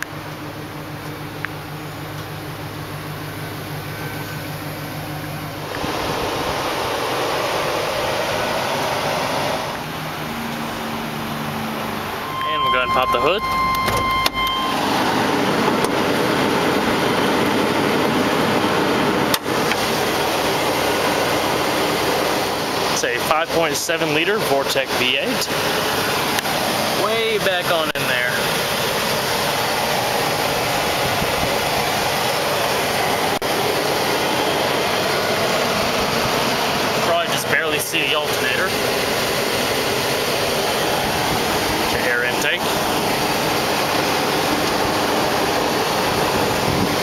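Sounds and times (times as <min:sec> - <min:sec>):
van engine idling: 0:00.0 - 0:47.0.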